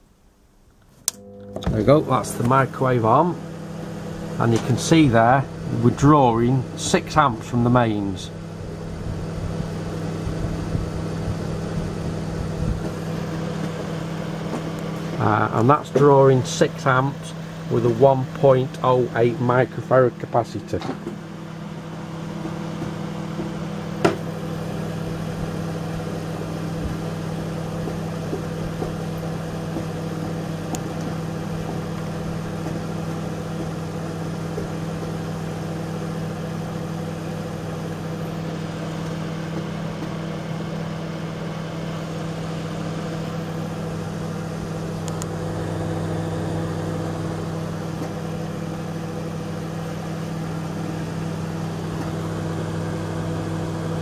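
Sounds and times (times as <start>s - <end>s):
microwave oven humming: 0.0s - 54.0s.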